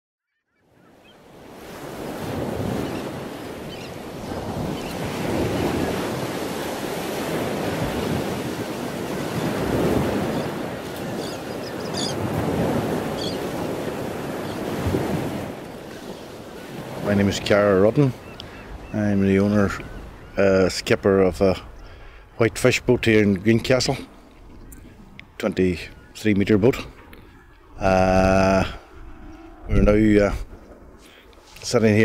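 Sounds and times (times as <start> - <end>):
wind: 0.5 - 32.0
sea surf breaking: 1.0 - 32.0.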